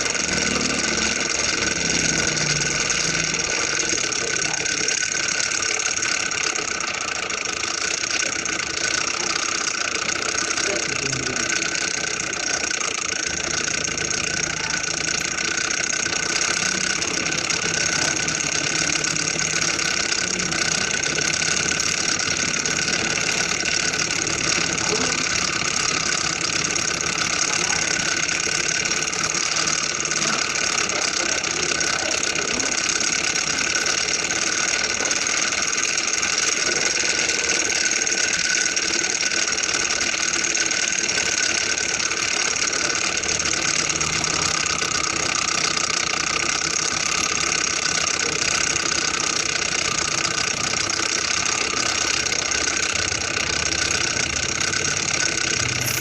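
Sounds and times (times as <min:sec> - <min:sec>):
stirling engine running: 0:00.0 - 0:56.0.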